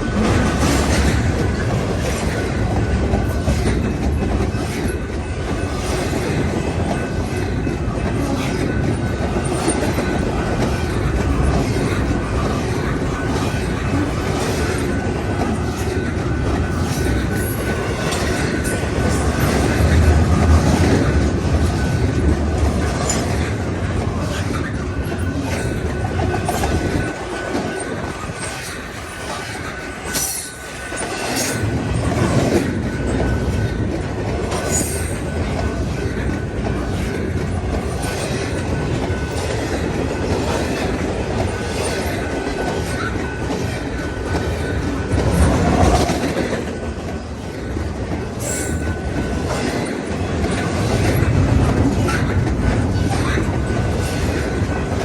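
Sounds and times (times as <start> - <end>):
freight train cars rumbling: 0.0 - 55.0
train wheels clicking over rail joints: 0.0 - 55.0.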